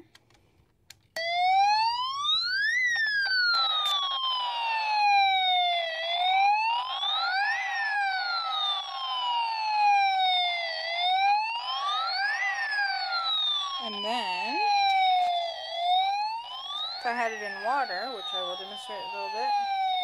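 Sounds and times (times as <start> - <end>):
toy electronic siren wailing: 1.2 - 20.0.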